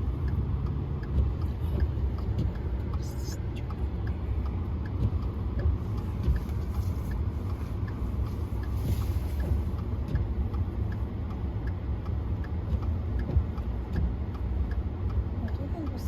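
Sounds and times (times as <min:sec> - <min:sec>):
faint ticking: 0:00.0 - 0:08.8, 0:09.4 - 0:16.0
car road and engine rumble: 0:00.0 - 0:16.0.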